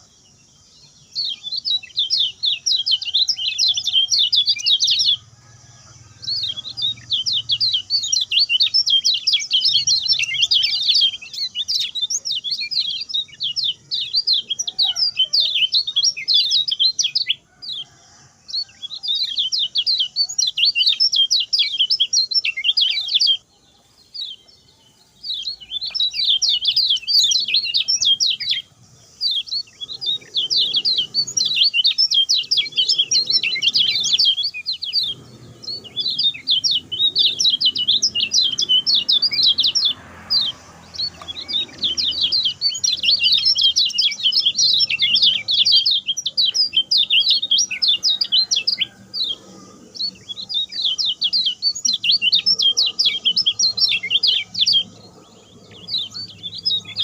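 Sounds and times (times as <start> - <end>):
songbird chirping rapidly: 0.0 - 57.0.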